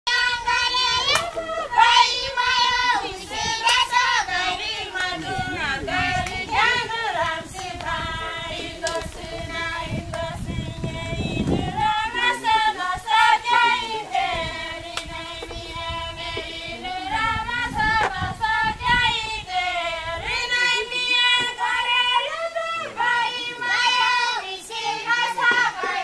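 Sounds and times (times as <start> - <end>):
women and children singing a chant: 0.1 - 26.0.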